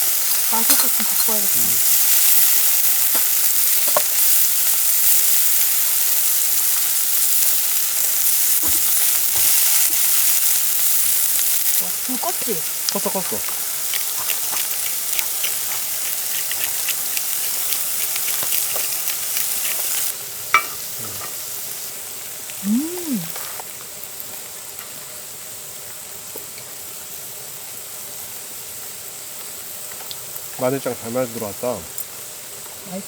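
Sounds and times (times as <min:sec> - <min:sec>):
beef sizzling on griddle: 0:00.0 - 0:33.0.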